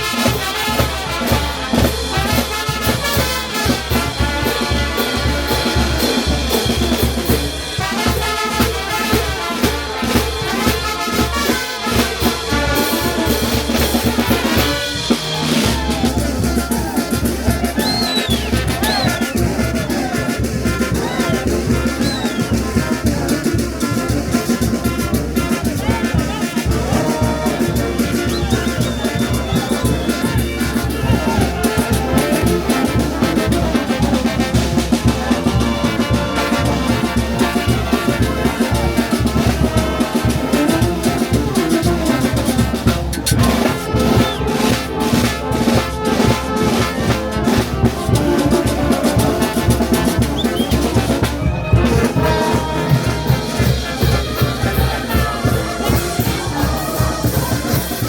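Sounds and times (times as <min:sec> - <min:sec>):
brass band playing festive music: 0:00.0 - 0:58.0.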